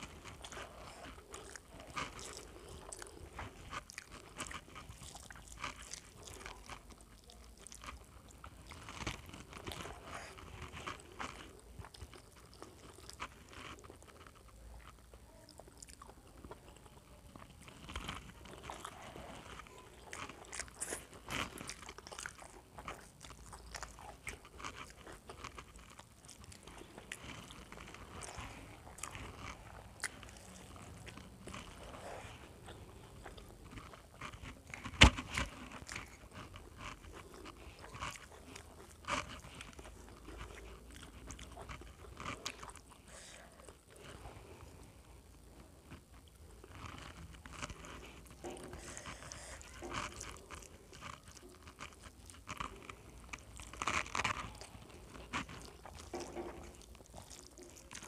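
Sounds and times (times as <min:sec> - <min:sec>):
chewing and lip-smacking: 0:00.0 - 0:58.0.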